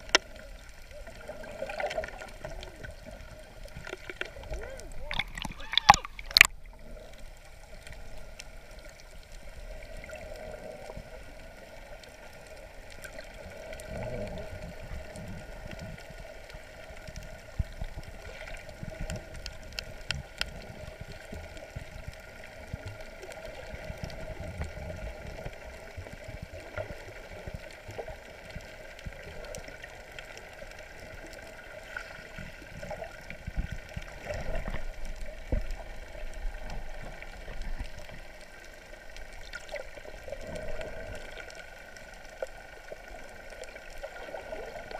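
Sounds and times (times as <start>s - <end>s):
muffled water gurgling: 0.0s - 44.9s.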